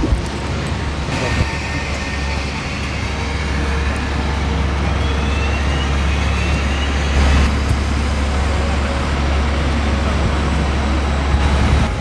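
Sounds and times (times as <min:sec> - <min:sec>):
jet airliner rumble: 0:00.0 - 0:12.0.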